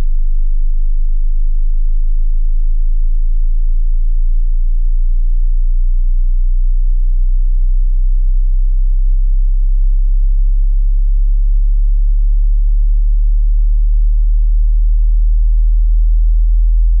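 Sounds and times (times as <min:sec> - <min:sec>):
low pure sine tone: 0:00.0 - 0:17.0.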